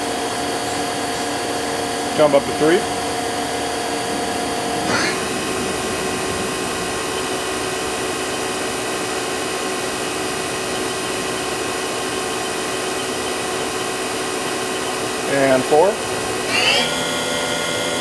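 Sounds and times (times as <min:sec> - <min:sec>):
machine spindle whine: 0:00.0 - 0:18.0.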